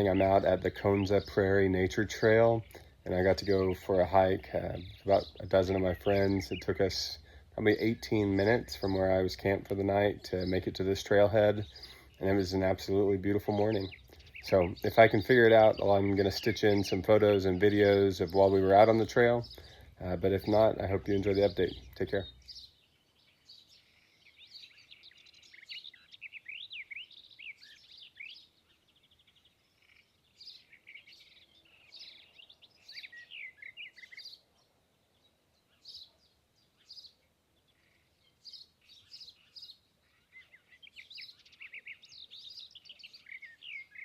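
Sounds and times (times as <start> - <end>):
songbirds chirping and trilling: 0.0 - 44.0.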